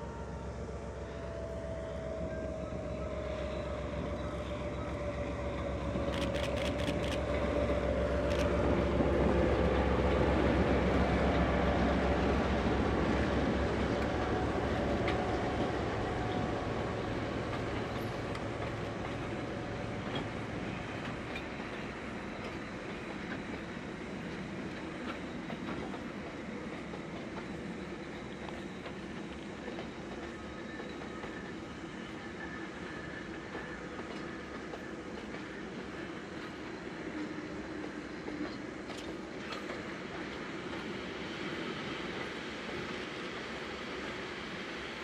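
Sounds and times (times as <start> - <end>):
train passing by: 0.0 - 45.0.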